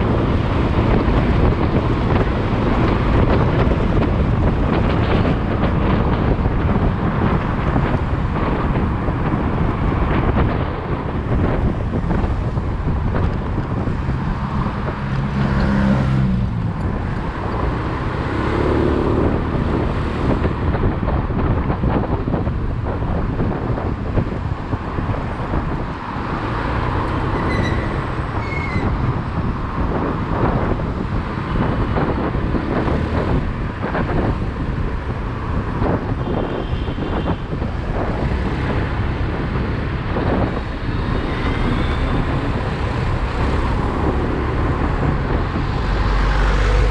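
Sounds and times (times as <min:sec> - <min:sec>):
passing vehicle hum: 0:00.0 - 0:46.9
road and traffic noise: 0:00.0 - 0:46.9
vehicles passing: 0:00.0 - 0:46.9.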